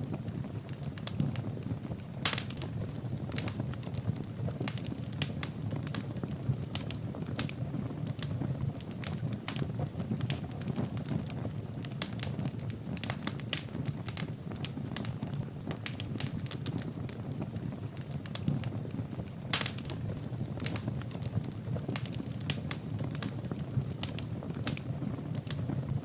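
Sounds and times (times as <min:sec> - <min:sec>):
flames rumbling: 0:00.0 - 0:26.0
wood fire crackling and popping: 0:00.0 - 0:26.0.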